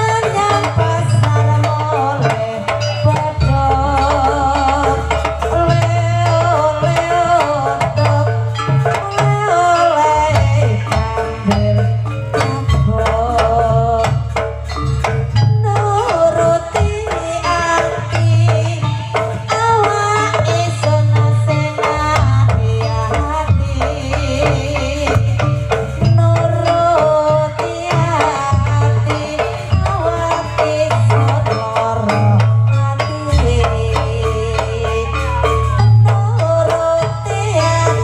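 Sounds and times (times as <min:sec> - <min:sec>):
hand drums beating: 0:00.0 - 0:38.0.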